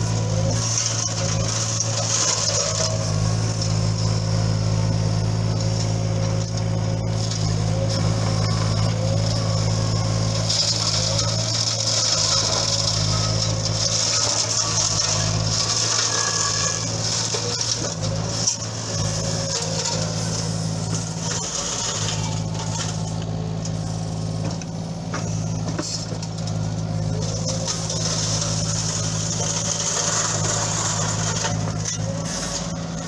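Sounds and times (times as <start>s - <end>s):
diesel engine running under load: 0.0s - 33.0s
flail mulcher shredding brush: 0.0s - 33.0s.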